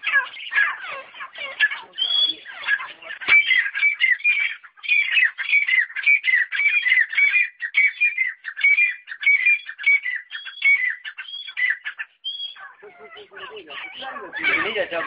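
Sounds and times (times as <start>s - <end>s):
partridge calling: 0.0s - 15.0s.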